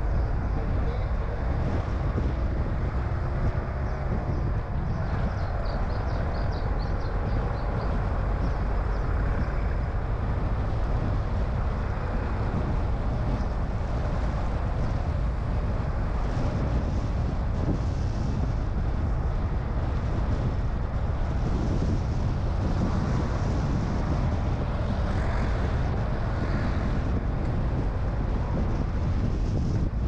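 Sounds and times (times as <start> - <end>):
car road and engine noise: 0.0 - 30.0
wind buffeting the microphone: 0.0 - 30.0.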